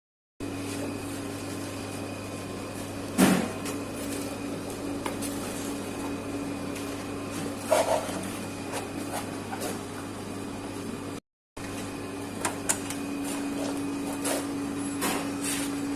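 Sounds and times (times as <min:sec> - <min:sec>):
machine electric hum: 0:00.4 - 0:15.9.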